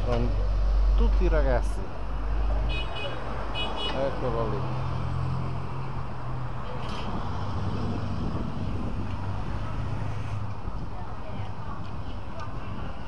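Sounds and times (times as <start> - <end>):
low engine hum of traffic: 0.0 - 13.0.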